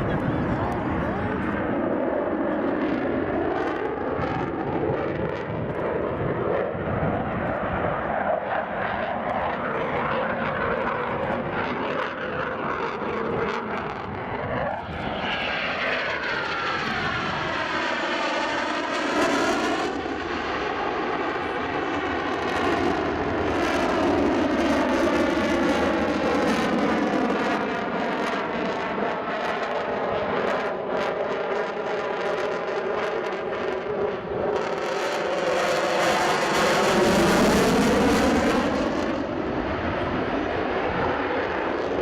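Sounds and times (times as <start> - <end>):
loud jet engines roaring: 0.0 - 42.0.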